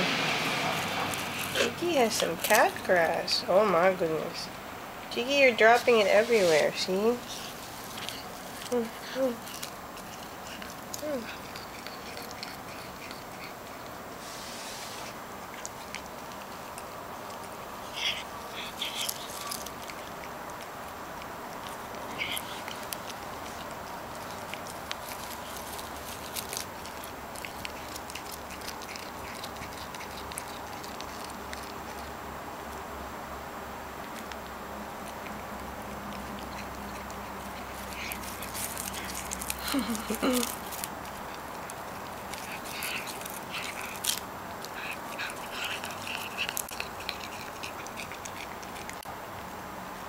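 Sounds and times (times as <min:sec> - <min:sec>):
cat chewing grass: 0:00.0 - 0:03.8, 0:05.6 - 0:32.8, 0:33.8 - 0:49.2.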